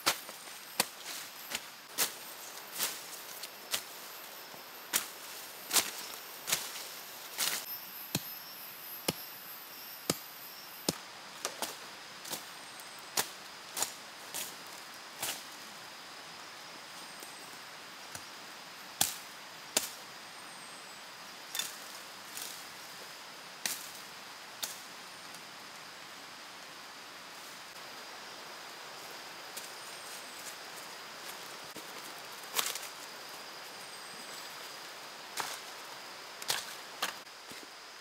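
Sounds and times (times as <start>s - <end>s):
faint steady hiss: 0.0s - 38.0s.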